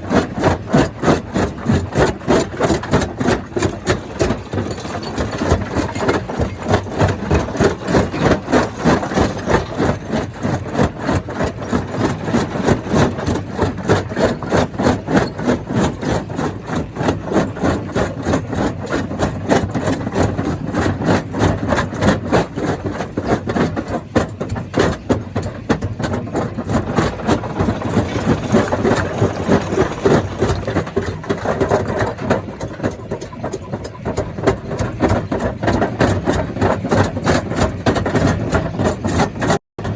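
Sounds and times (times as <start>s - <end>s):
rock clattering in crusher: 0.0s - 39.9s.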